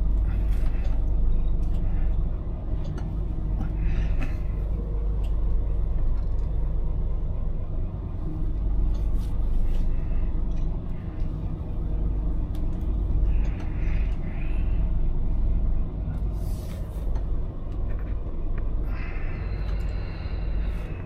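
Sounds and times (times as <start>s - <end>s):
lorry diesel engine running: 0.0s - 21.0s
road rumble: 0.0s - 21.0s.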